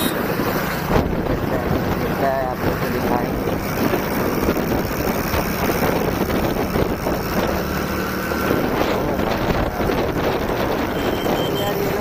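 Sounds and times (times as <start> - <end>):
motorcycle engine running: 0.0 - 12.0
wind rushing over microphone: 0.2 - 12.0.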